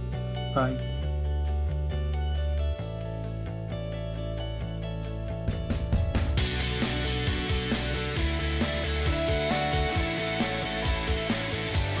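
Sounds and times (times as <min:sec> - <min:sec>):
upbeat rock music with guitar: 0:00.0 - 0:12.0.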